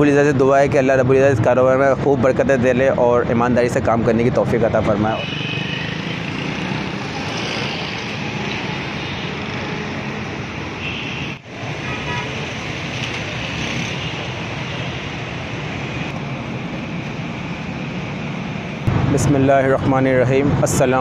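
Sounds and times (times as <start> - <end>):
passing cars and motorcycles: 0.0 - 21.0.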